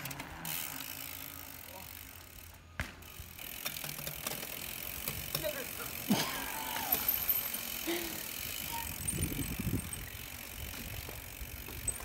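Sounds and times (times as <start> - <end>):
bicycle freehub ratcheting: 0.0 - 12.0
bike tyres rolling on pavement: 0.0 - 12.0.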